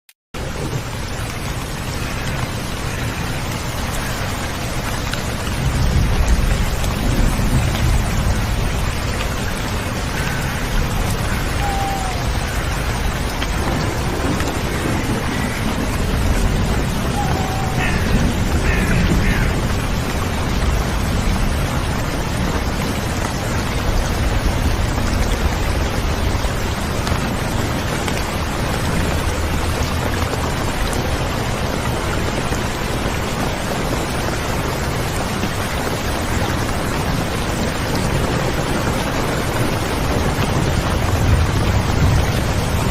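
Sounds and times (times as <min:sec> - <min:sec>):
steady rain falling: 0:00.4 - 0:42.9.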